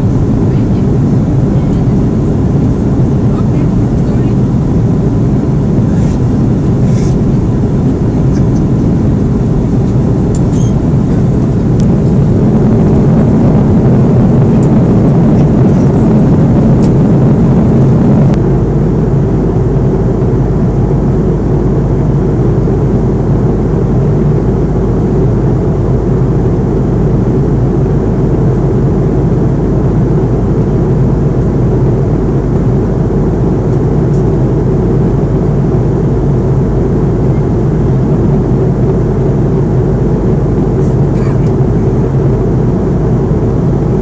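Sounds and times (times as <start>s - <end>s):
jet engine cabin rumble: 0.0s - 44.0s.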